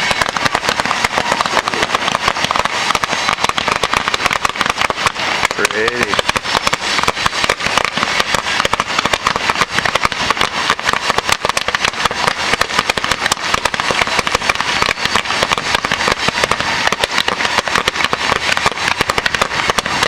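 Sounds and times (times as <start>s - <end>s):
fireworks crackling pops: 0.0s - 20.0s.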